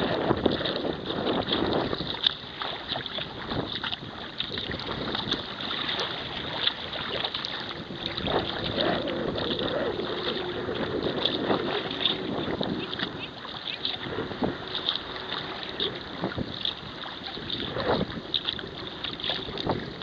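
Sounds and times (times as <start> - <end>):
paddle splashes: 0.0 - 20.0
water lapping against kayak: 0.0 - 20.0
wind buffeting microphone: 0.0 - 20.0.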